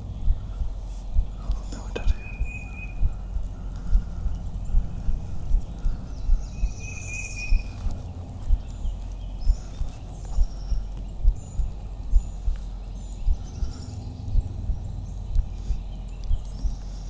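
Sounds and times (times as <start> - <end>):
dull low thumps: 0.0 - 17.0
small birds chirping: 0.0 - 17.0.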